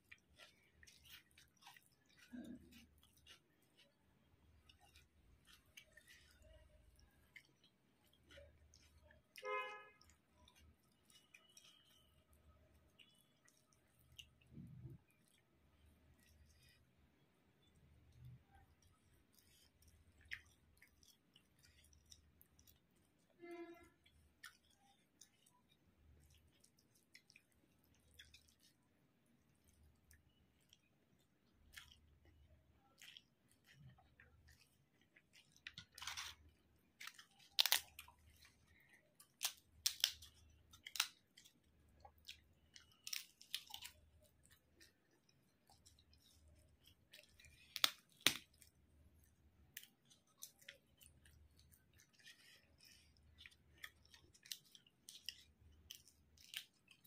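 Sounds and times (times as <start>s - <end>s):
crisp papad crunching: 0.0s - 16.9s, 17.8s - 57.0s
person chewing food: 0.0s - 57.0s.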